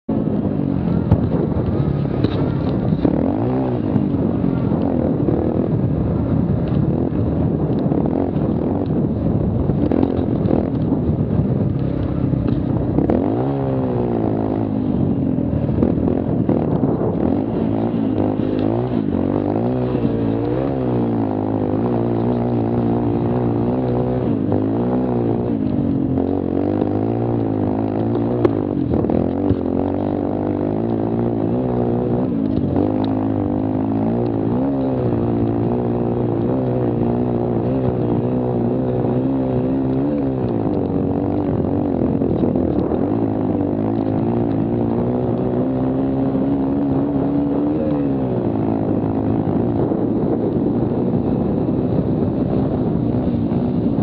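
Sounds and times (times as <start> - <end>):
quad engine revving: 0.1 - 54.0.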